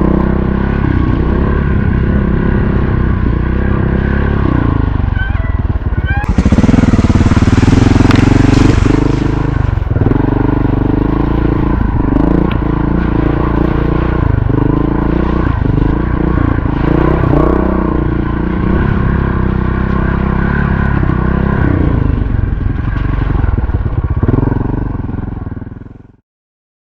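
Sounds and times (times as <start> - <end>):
motorcycle engine revving: 0.0 - 26.2.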